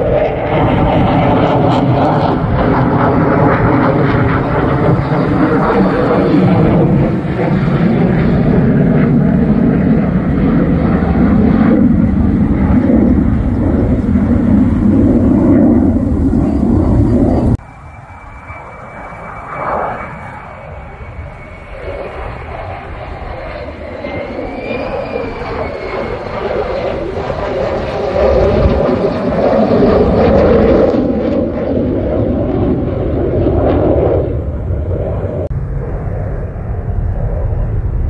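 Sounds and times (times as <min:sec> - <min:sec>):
high whine: 0:00.0 - 0:38.0
jet engine roar: 0:00.0 - 0:38.0.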